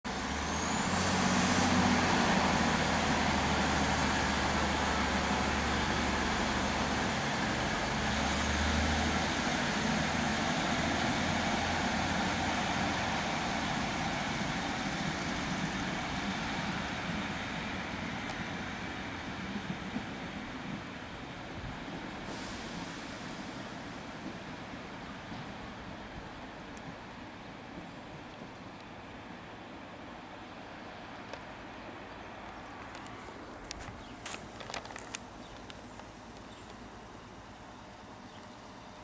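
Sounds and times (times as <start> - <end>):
diesel train engine rumble: 0.1 - 39.0.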